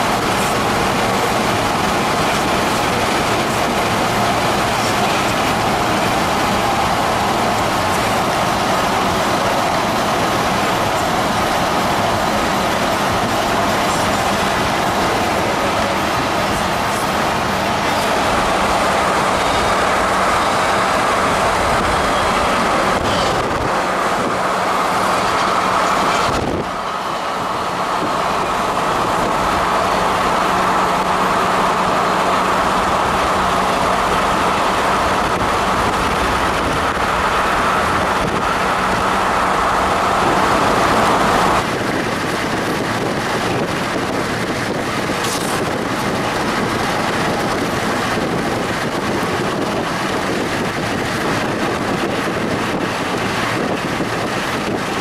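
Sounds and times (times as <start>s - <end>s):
car road and wind noise: 0.0s - 55.0s
freight train rumbling by: 0.0s - 55.0s.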